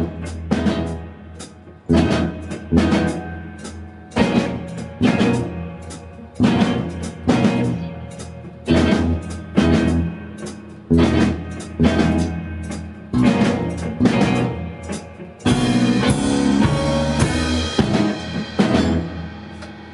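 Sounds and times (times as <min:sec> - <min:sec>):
drum kit: 0:00.0 - 0:19.9
live rock band playing: 0:00.0 - 0:19.9
ringing guitar chords: 0:00.0 - 0:19.9.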